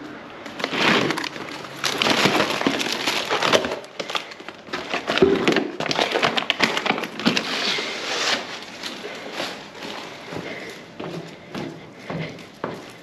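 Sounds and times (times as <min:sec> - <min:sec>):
plastic packs crackling and clattering: 0:00.0 - 0:10.7.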